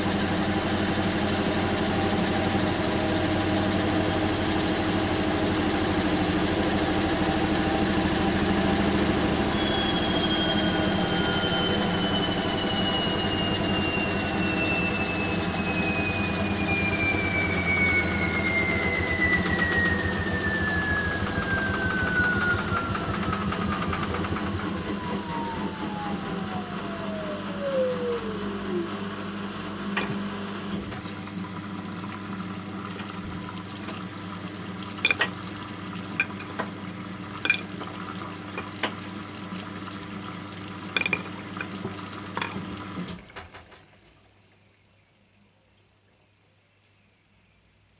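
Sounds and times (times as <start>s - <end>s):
washing machine motor whine: 0.0s - 43.8s
low mechanical hum: 0.0s - 47.9s.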